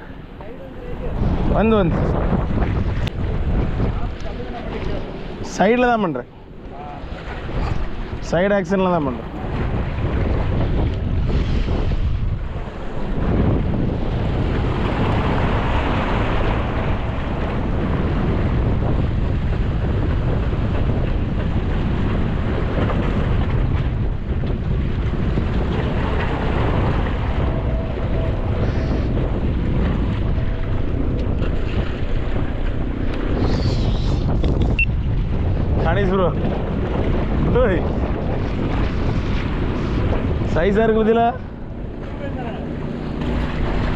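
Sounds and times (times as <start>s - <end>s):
sea waves washing: 0.0s - 43.9s
wind buffeting microphone: 0.0s - 43.9s.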